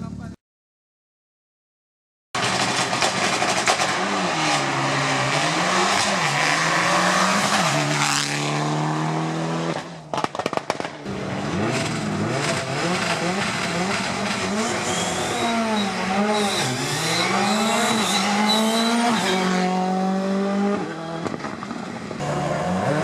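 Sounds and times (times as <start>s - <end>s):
rally car engine: 2.4s - 23.0s
tyre and road noise: 2.4s - 23.0s.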